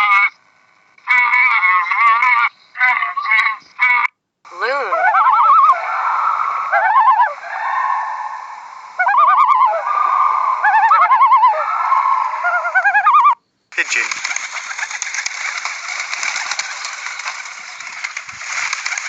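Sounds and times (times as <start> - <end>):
animal warbling calls: 1.1 - 19.0.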